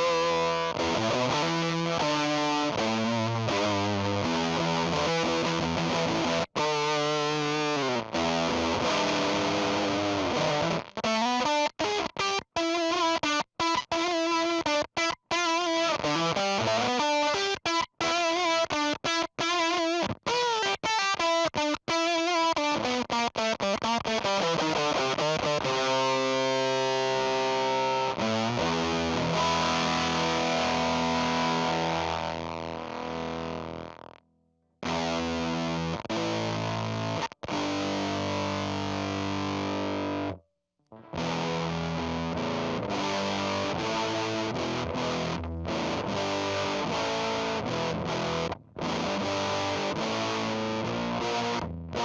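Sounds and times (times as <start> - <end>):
distorted fuzz electric guitar: 0.0 - 34.2, 34.8 - 40.4, 41.0 - 52.0.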